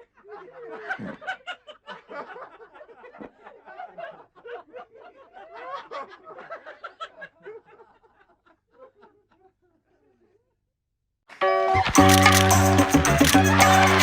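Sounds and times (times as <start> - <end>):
people laughing: 0.0 - 10.4, 12.8 - 14.0.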